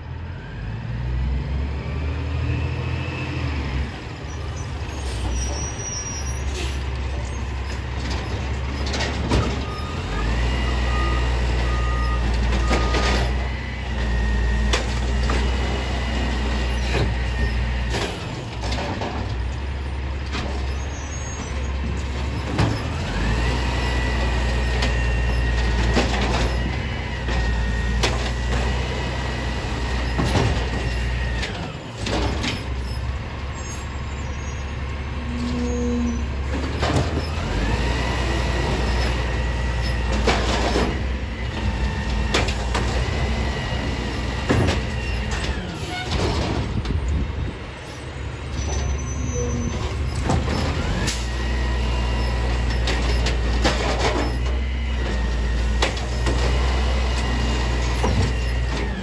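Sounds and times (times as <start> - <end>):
garbage truck engine revving: 6.6 - 59.0.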